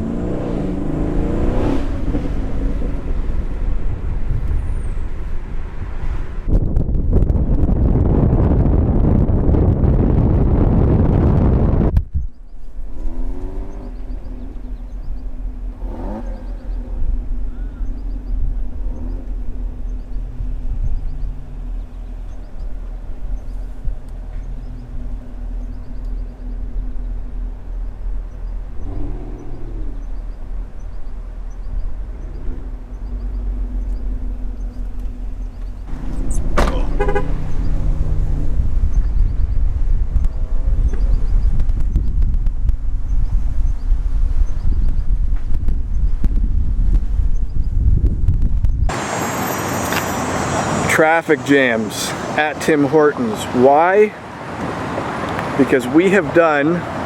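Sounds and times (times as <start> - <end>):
car engine hum: 0.0 - 57.0
wind and road noise: 0.0 - 57.0.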